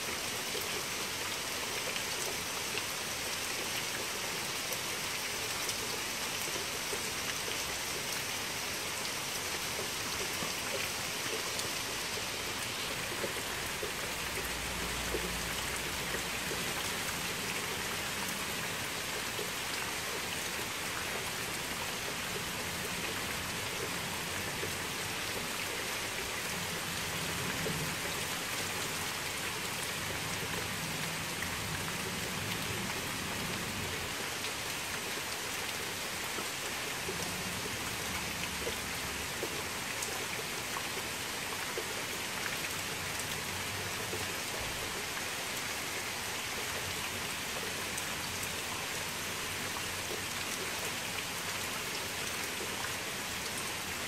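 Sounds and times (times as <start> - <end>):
rain falling on gravel: 0.0 - 54.0.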